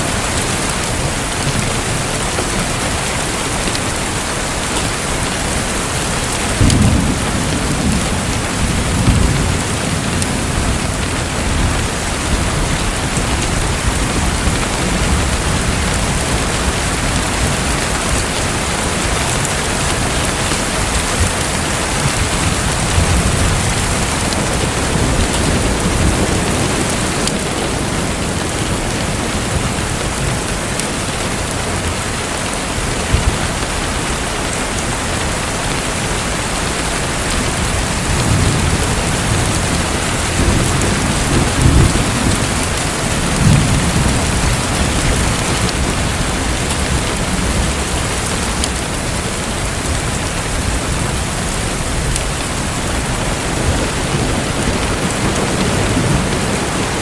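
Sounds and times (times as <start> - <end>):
heavy rain: 0.0 - 57.0
thunder rumbles: 0.0 - 57.0.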